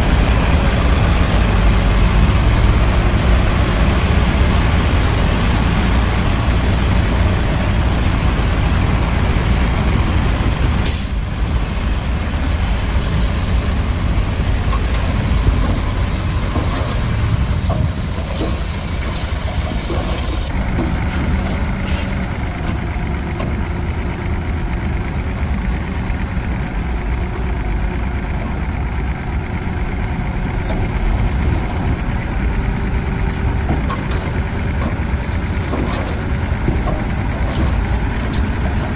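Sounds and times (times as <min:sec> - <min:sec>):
bulldozer diesel engine rumble: 0:00.0 - 0:38.9.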